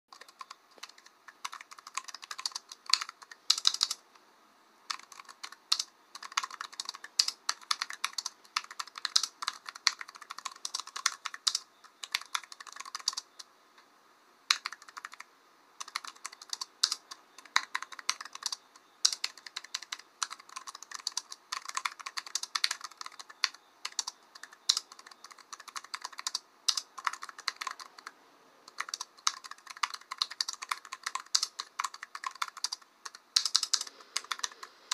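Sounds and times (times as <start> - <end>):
typing on computer keyboard: 0.1 - 4.0, 4.9 - 13.5, 14.5 - 28.1, 28.7 - 34.9.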